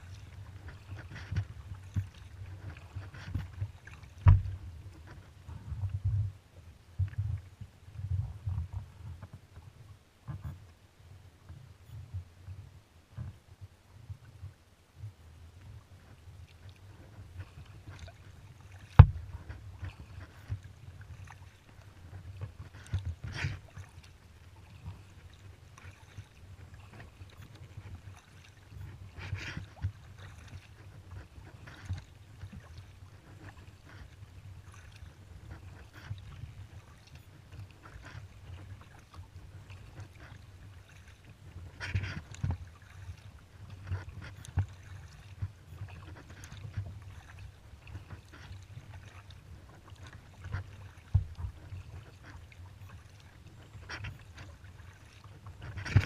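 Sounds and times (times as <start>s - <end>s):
kayak paddle splashing: 0.0s - 6.0s, 15.9s - 56.0s.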